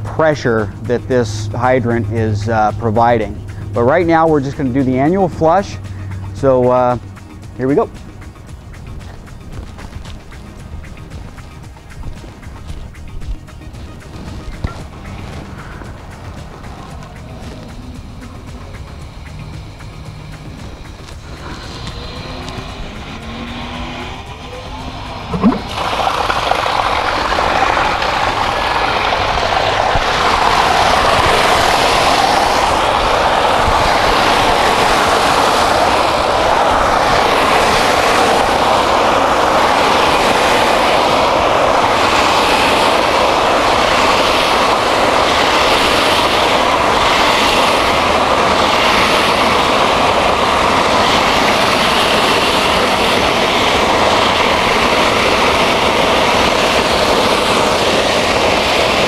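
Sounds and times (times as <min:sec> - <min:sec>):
water rushing from fire hydrant: 0:00.0 - 0:59.0.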